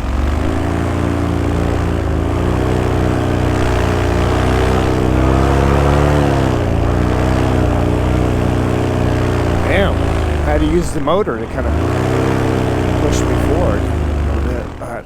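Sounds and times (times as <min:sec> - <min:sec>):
paramotor engine and propeller: 0:00.0 - 0:15.0.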